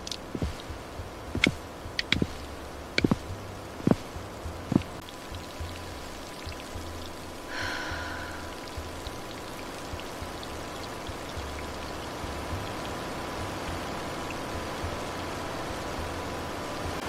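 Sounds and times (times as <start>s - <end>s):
light rain: 0.0s - 17.0s
running water: 0.0s - 17.0s
small water drips: 0.0s - 17.0s.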